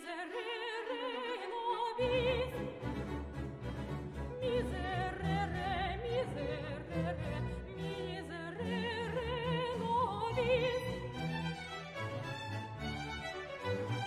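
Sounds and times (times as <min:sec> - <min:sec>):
operatic singing with vibrato: 0:00.0 - 0:14.0
orchestral accompaniment: 0:02.1 - 0:14.0.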